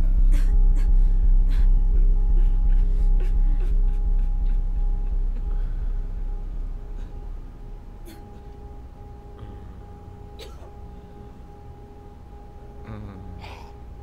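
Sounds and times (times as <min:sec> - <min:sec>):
low dark ambient drone: 0:00.0 - 0:14.0.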